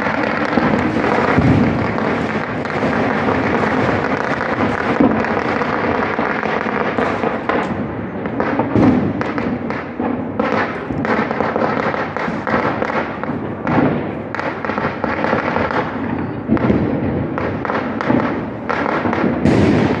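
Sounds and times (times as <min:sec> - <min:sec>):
firecrackers cracking and banging: 0:00.0 - 0:20.0
loud firework booms: 0:00.0 - 0:20.0.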